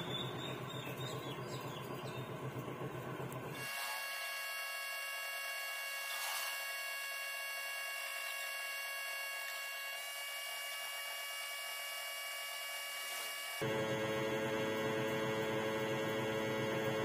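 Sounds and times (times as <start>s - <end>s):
fan whine: 0.0s - 17.0s.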